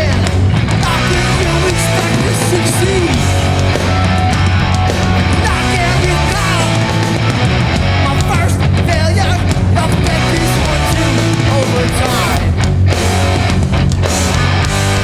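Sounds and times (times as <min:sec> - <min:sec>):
punk band playing live: 0:00.0 - 0:15.0.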